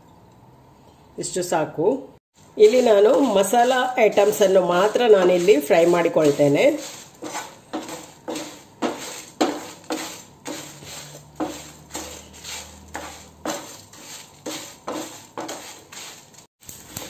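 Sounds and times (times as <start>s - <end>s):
wooden spatula scraping frying pan: 2.4s - 17.0s.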